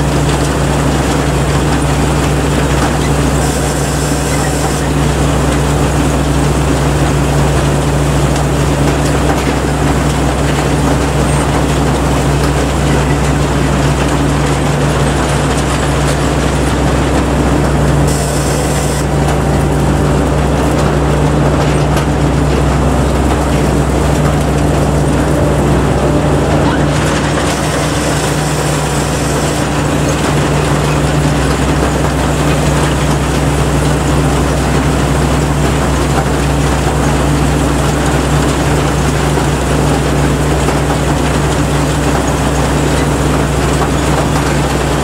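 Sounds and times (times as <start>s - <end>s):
combine harvester engine drone: 0.0s - 45.0s.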